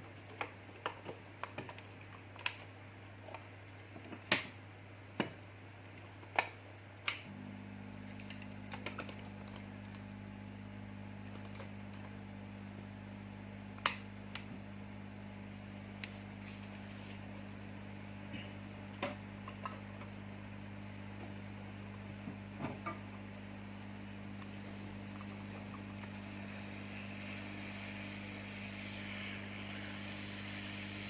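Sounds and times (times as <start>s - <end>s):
hot-air station fan hum: 0.0s - 31.0s.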